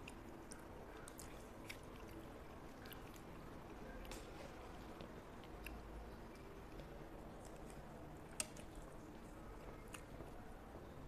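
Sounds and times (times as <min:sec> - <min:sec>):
chewing food: 0:00.0 - 0:11.0.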